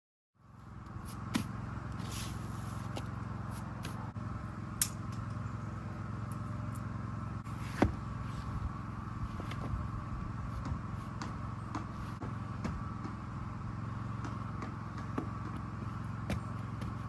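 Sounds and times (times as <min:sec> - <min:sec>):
engine hum: 0:00.4 - 0:17.0.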